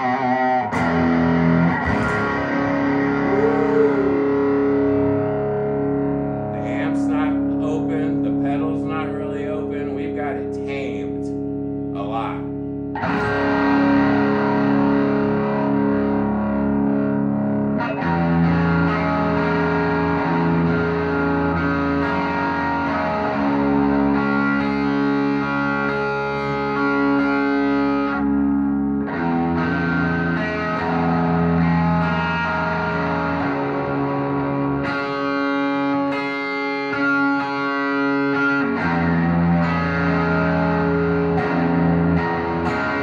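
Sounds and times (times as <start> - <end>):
overdriven electric guitar chords: 0.0 - 43.0.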